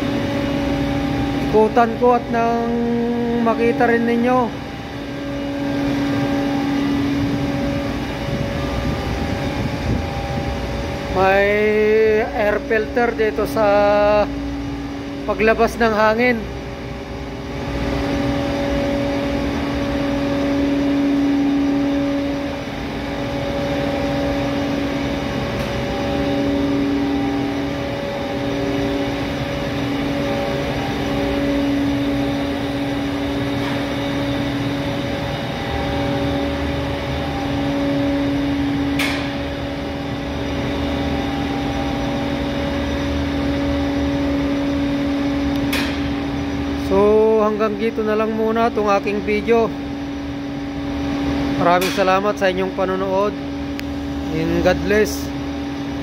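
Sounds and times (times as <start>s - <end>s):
air compressor hum and whine: 0.0s - 56.0s.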